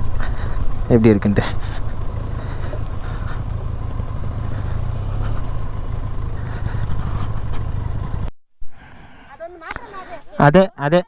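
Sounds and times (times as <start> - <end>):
motorcycle engine rumbling: 0.0 - 10.4.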